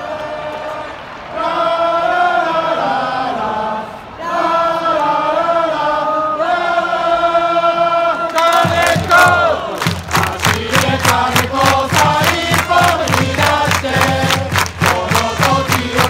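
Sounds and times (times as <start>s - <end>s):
crowd singing in unison: 0.0s - 16.0s.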